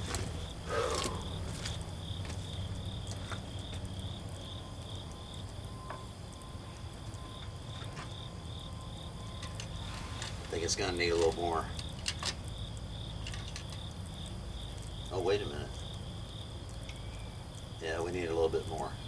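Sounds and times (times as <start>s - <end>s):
insects trilling: 0.0s - 19.0s
low background hum: 0.0s - 19.0s.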